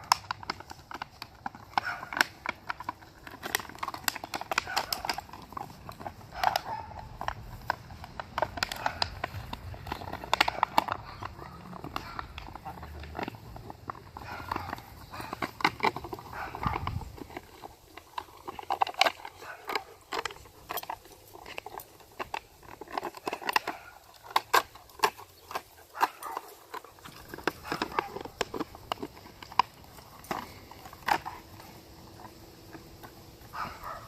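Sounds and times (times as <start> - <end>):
puppies playing: 0.0 - 34.0.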